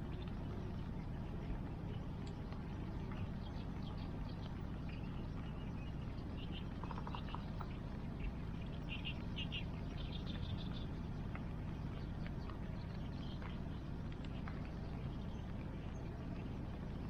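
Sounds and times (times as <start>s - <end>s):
campfire crackling: 0.0s - 17.0s
rain: 0.0s - 17.0s
river water: 0.0s - 17.0s.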